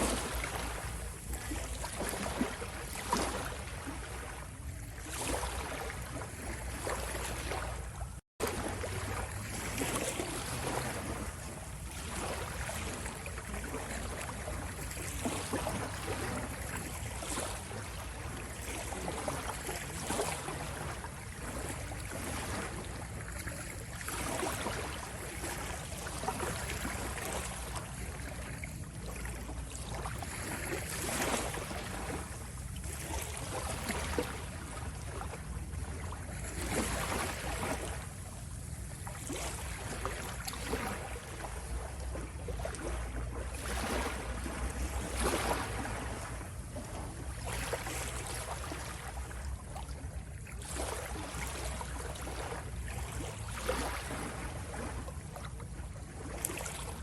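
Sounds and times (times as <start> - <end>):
ocean waves washing in: 0.0 - 57.0.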